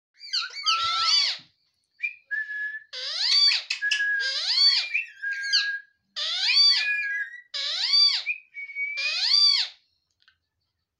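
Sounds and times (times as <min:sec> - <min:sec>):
parakeet whistly calls: 0:00.2 - 0:01.4, 0:02.0 - 0:09.8.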